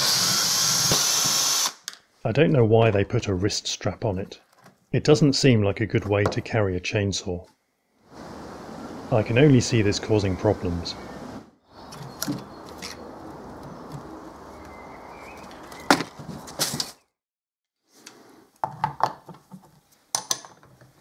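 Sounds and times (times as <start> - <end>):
outdoor background noise: 0.0 - 17.1, 17.8 - 21.0.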